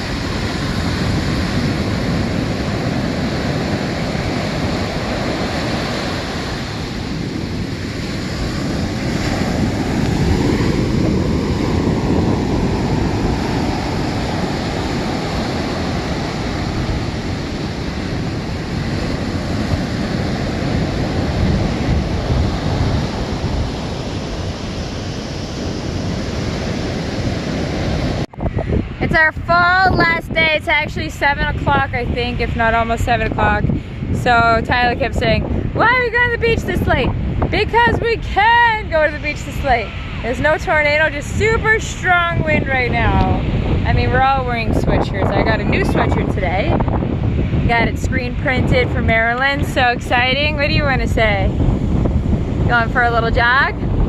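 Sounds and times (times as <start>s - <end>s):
ocean surf on a beach: 0.0s - 54.0s
wind buffeting the microphone: 0.0s - 54.0s.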